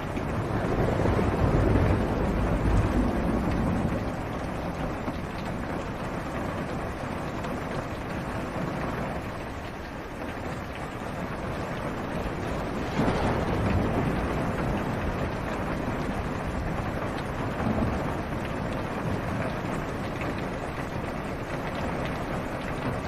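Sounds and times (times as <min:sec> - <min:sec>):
thunder rumble: 0:00.0 - 0:09.4, 0:10.6 - 0:23.0
rain on car roof: 0:00.0 - 0:23.0.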